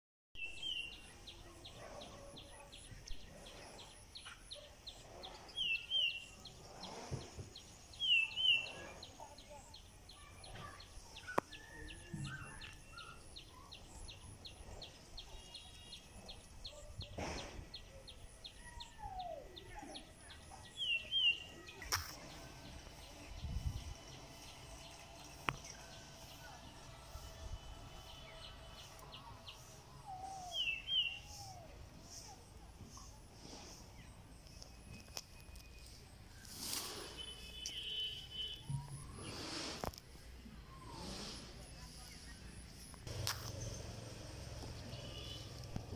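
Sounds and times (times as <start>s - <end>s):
bird chirping: 0.4s - 39.7s.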